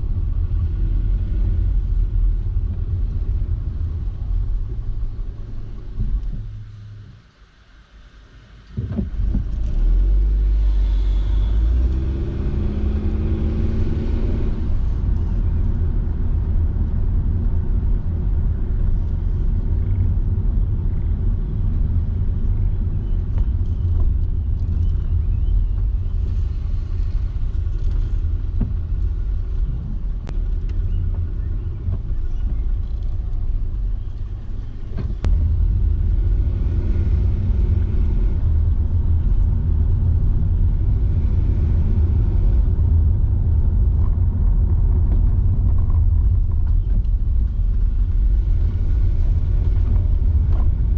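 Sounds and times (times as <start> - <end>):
car tyres and engine rumble: 0.0 - 50.9.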